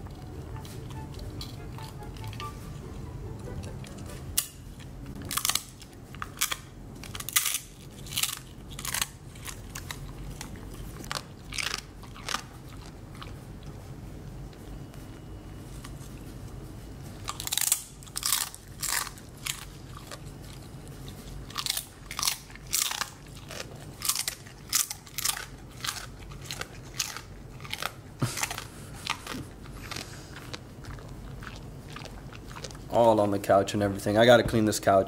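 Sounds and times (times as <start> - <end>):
dog crunching a treat: 0.0 - 2.6, 3.4 - 34.3.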